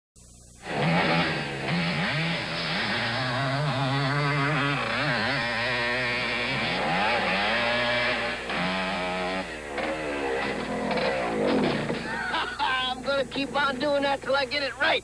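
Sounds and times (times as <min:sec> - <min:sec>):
dirt bike engine revving: 0:00.6 - 0:13.7.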